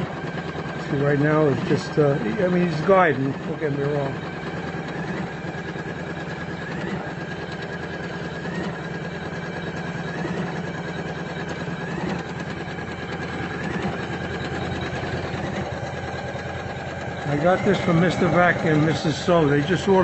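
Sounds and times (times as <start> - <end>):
embroidery machine needle chatter: 0.0 - 20.0
short rising machine whine: 0.0 - 20.0.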